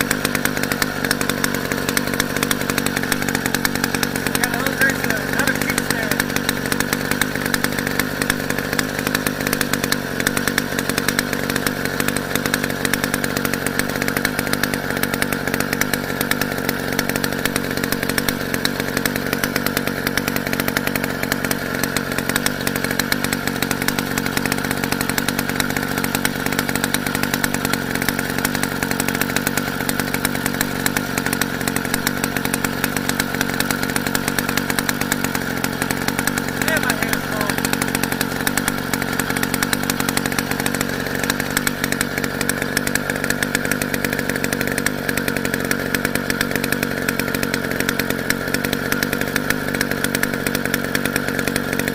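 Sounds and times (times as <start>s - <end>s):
small two-stroke engine running: 0.0s - 51.9s.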